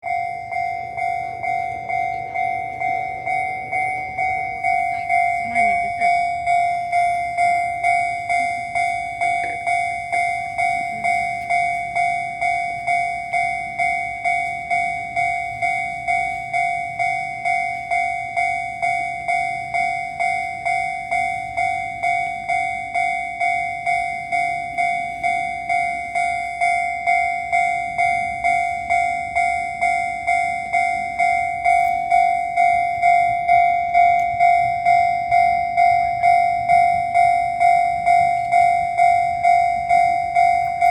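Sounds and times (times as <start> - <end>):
level-crossing bell ringing: 0.0 - 40.9.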